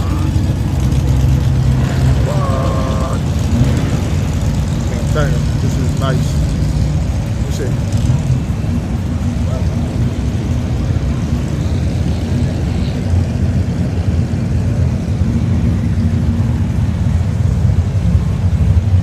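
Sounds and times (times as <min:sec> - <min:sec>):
car engines idling: 0:00.0 - 0:19.0.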